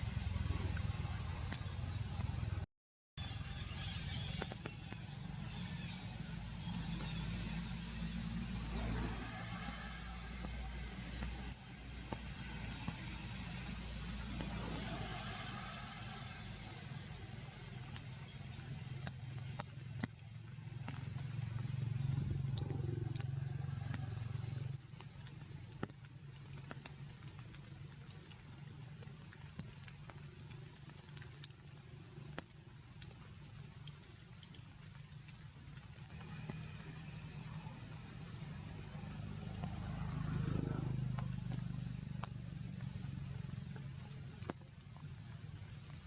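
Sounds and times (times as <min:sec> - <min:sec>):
low engine-like hum: 0:00.0 - 0:02.6, 0:03.2 - 0:46.0
rain falling: 0:03.4 - 0:46.0.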